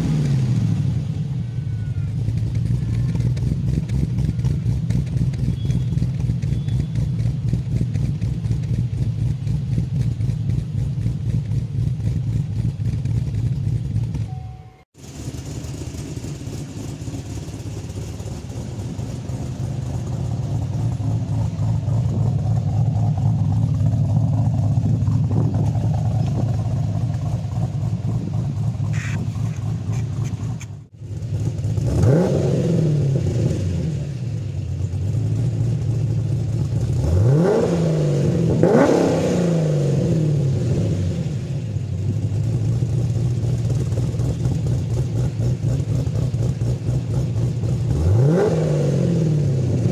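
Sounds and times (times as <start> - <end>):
car engine idling: 0.0 - 37.4, 40.4 - 49.9
car engine revving: 2.0 - 49.9.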